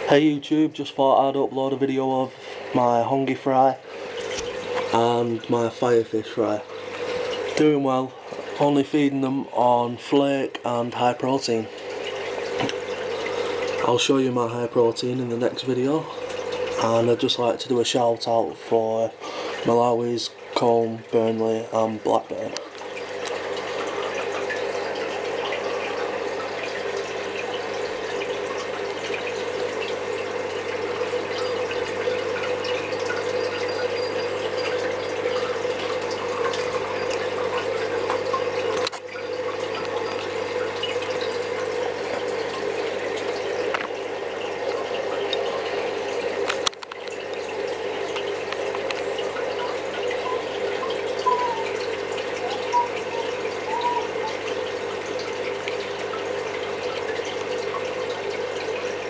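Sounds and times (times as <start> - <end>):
aquarium filter bubbling water: 0.0 - 59.0.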